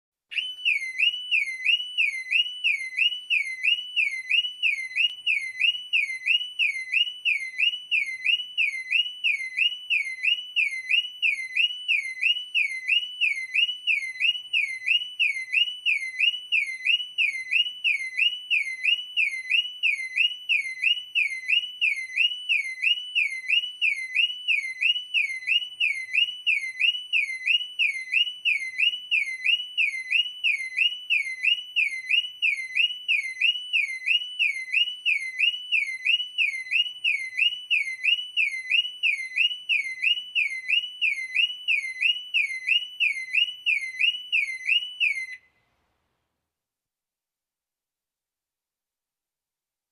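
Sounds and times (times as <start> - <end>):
car alarm siren: 0.3 - 45.5.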